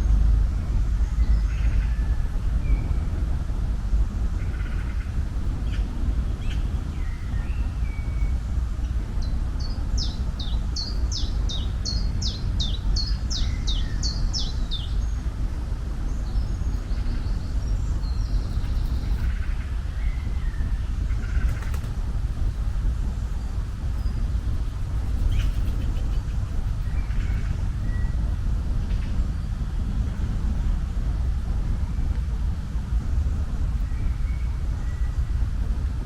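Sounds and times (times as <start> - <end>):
low rumble: 0.0 - 36.0.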